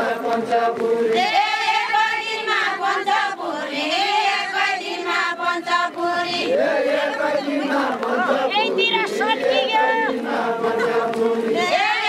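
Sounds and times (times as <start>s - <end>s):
women singing in chorus: 0.0s - 12.0s.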